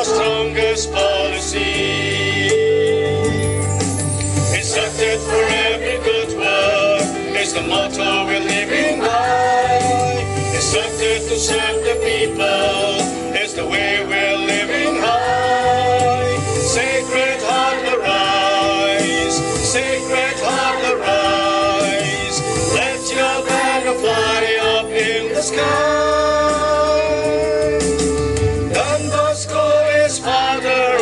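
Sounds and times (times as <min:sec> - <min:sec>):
choir singing through microphones: 0:00.0 - 0:03.2, 0:04.5 - 0:31.0.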